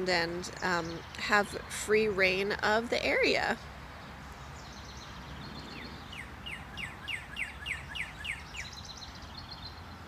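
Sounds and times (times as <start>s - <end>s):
low background noise: 0.0s - 10.0s.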